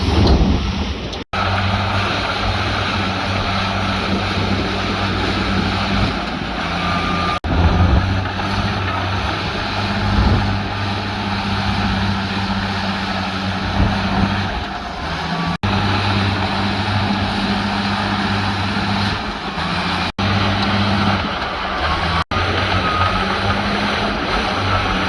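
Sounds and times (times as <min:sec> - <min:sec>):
heavy diesel engine drone: 0:00.0 - 0:25.0
machinery clanking: 0:00.0 - 0:25.0.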